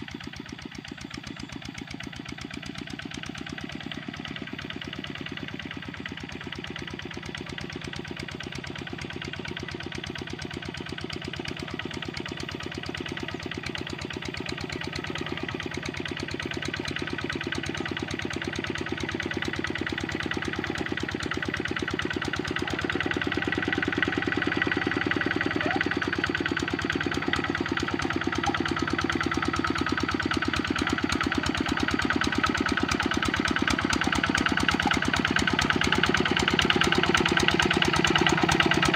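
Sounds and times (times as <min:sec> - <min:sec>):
diesel hand tractor engine running: 0:00.0 - 0:38.9.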